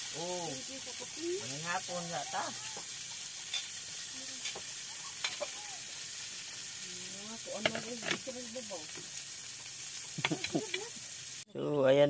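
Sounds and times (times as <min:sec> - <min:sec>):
soup pot hissing on stove: 0:00.0 - 0:11.5.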